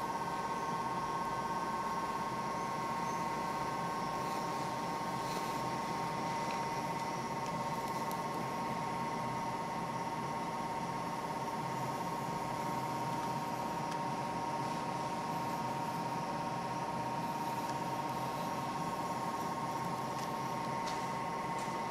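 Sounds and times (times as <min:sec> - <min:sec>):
aquarium equipment humming: 0:00.0 - 0:21.9.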